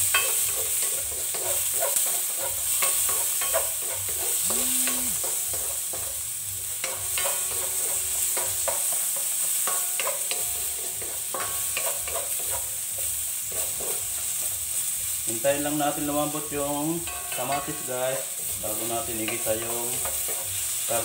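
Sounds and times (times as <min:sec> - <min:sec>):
spatula scraping a pan: 0:00.0 - 0:15.2, 0:17.1 - 0:21.0
vegetables sizzling in hot oil: 0:00.0 - 0:21.0.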